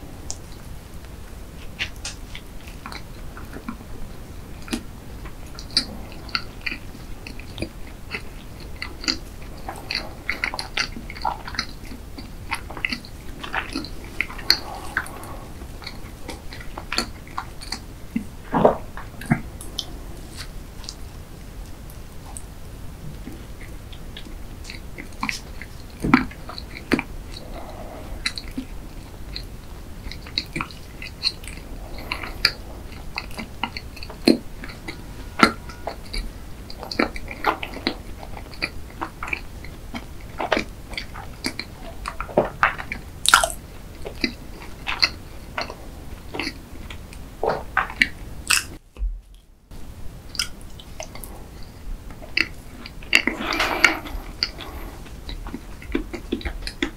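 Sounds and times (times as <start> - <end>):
close chewing mouth clicks: 0.0 - 22.5, 23.2 - 49.4, 50.3 - 56.9.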